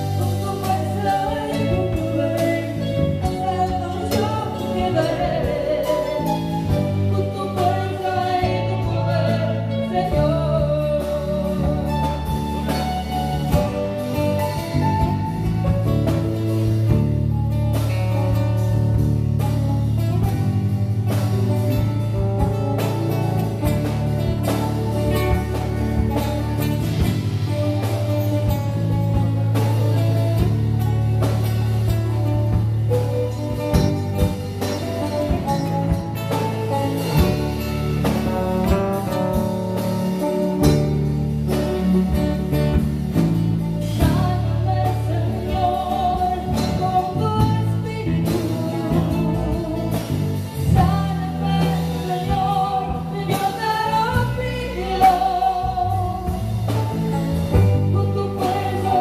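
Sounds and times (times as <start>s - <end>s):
electronic keyboard ballad: 0.0s - 59.0s
steady backing beat: 0.0s - 59.0s
sustained bass: 0.0s - 59.0s.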